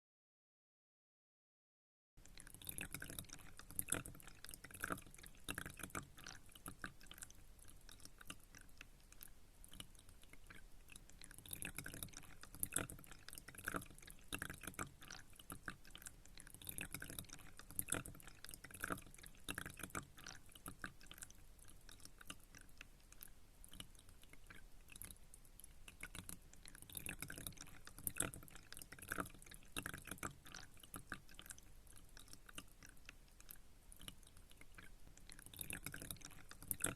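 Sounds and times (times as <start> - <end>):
water trickling and dripping: 2.2 - 36.9.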